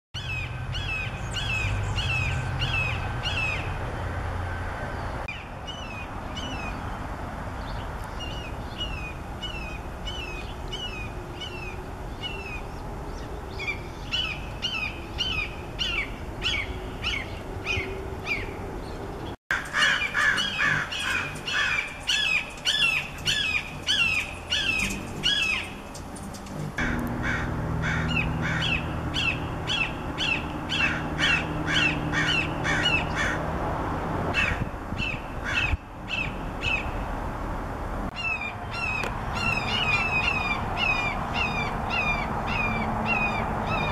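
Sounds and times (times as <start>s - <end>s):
hawks screaming calls: 0.2s - 3.8s, 8.2s - 18.6s, 19.5s - 26.1s, 26.8s - 33.4s, 34.3s - 37.0s, 38.2s - 43.9s.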